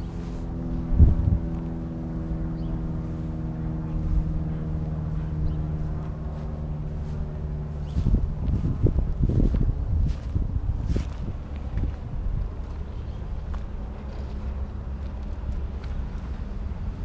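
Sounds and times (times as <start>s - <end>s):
vehicle engine idling: 0.0s - 17.0s
wind buffeting microphone: 0.0s - 17.0s.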